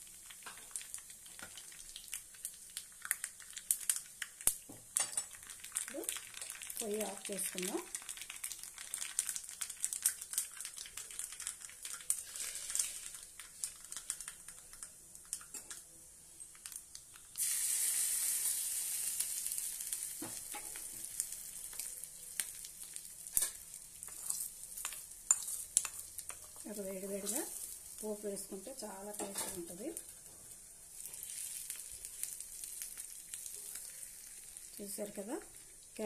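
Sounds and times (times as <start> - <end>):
loud sizzle: 0.0 - 36.0
seeds crackling in a pan: 0.0 - 36.0.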